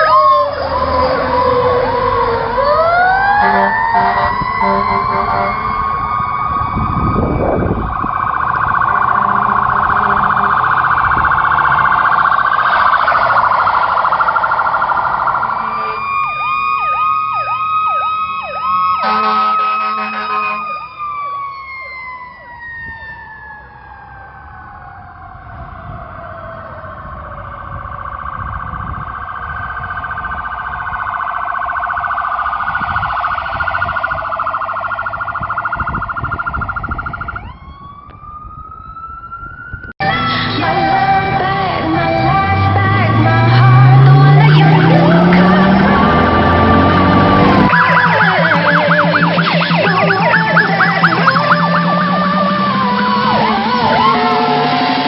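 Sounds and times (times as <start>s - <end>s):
fire truck electronic siren: 0.0s - 55.0s.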